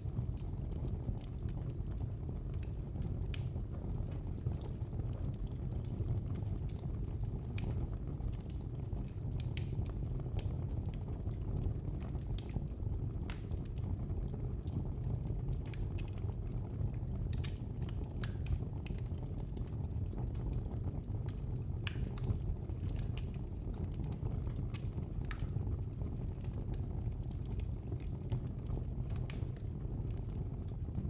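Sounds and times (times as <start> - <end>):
fire flames rumbling: 0.0 - 31.0
wood fire crackles and pops: 0.0 - 31.0.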